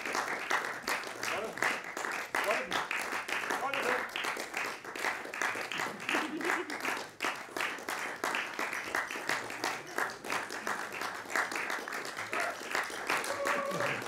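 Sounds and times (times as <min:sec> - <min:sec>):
audience applauding: 0:00.0 - 0:14.0
close individual claps: 0:00.0 - 0:14.0.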